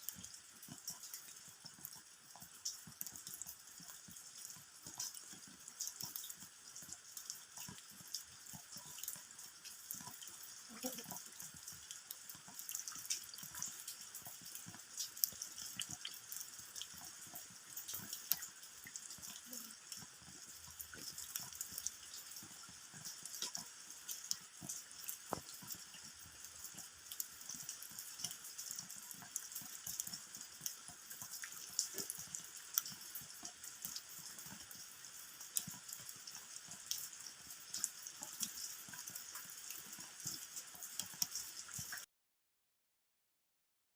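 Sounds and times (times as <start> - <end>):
raindrops tapping on ground: 0.0 - 42.0
soft steady rain hiss: 0.0 - 42.0.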